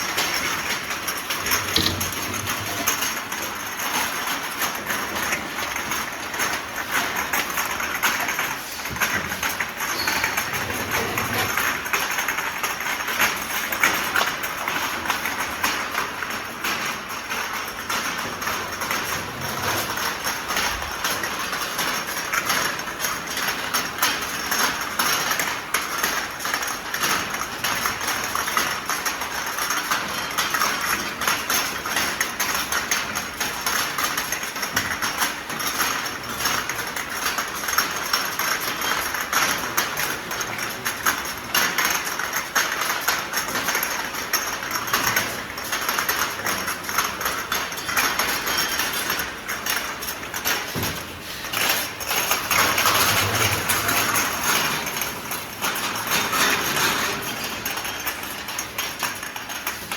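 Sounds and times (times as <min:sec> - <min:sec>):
bottle washing machine running: 0:00.0 - 0:59.9
glass bottles clinking and rattling: 0:00.0 - 0:59.9.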